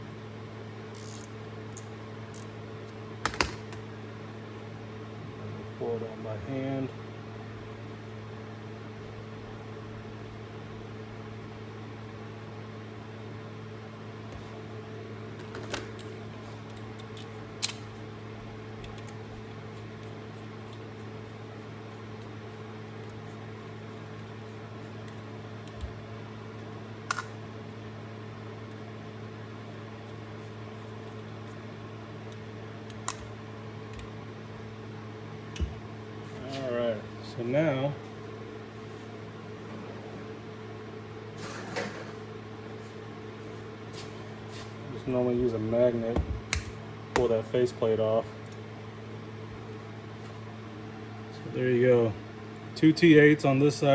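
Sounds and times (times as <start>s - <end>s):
low electrical hum: 0.0s - 53.9s.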